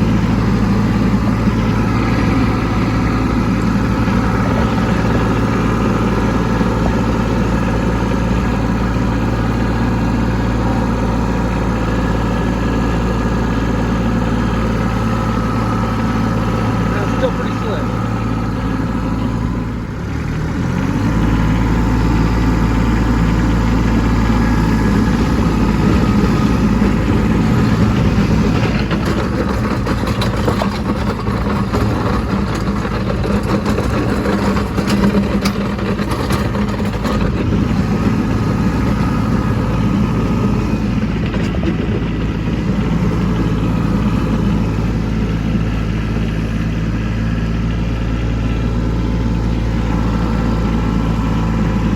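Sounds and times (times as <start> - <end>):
diesel tractor engine running: 0.0 - 51.9.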